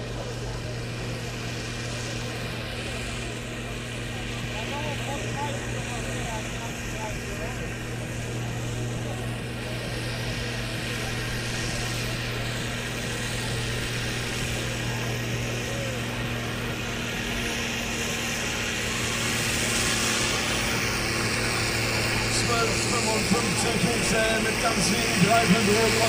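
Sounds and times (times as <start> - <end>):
tractor engine under full load: 0.0 - 26.0.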